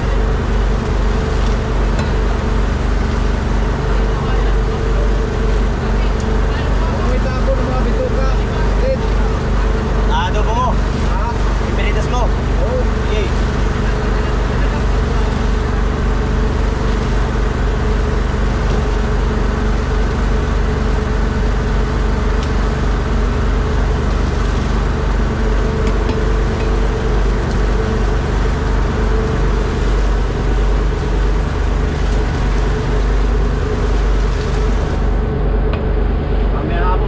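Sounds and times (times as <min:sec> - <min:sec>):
boat engine droning: 0:00.0 - 0:37.0.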